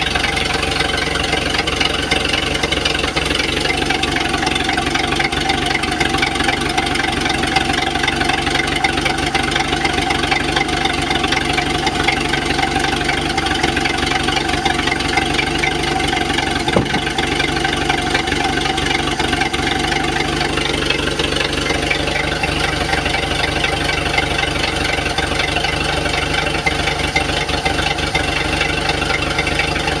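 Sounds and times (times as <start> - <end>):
engine idling with knock: 0.0 - 30.0.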